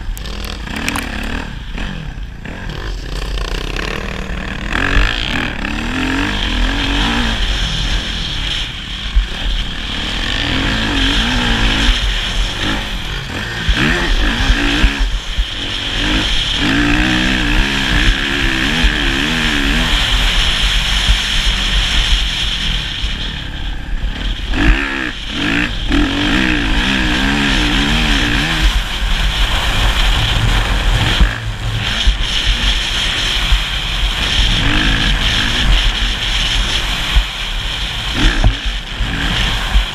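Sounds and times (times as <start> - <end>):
motorcycle engine revving: 0.0 - 39.9
steady low rumble: 0.0 - 39.9.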